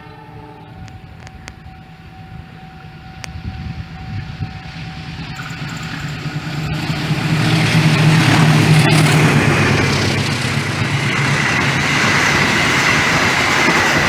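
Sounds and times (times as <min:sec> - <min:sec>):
diesel locomotive rumble: 0:00.0 - 0:14.0.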